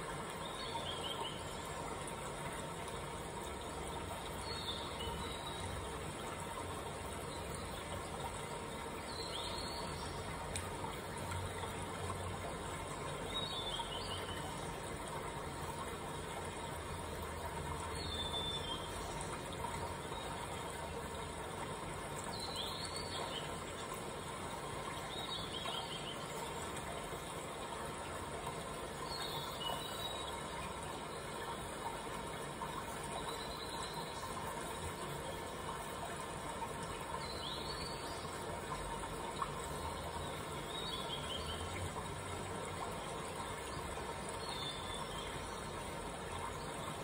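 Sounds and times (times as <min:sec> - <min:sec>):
low hum and hiss: 0:00.0 - 0:47.0.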